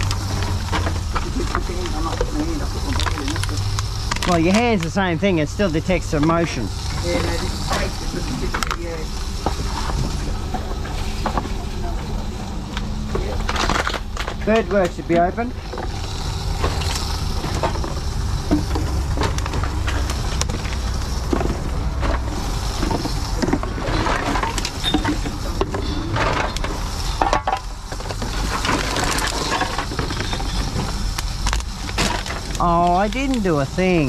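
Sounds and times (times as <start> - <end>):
cans and bottles clinking: 0.0 - 34.0
machine humming: 0.0 - 34.0.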